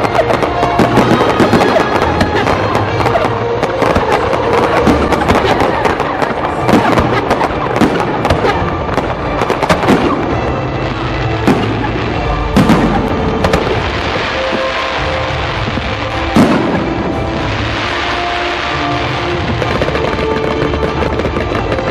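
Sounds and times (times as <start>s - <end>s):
fireworks banging and crackling: 0.0s - 21.9s
music: 0.0s - 21.9s.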